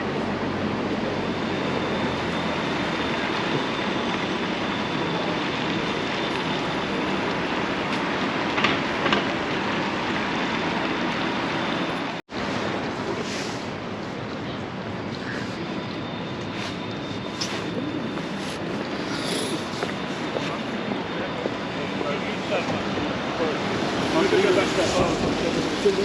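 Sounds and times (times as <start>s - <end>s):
train running: 0.0s - 26.0s.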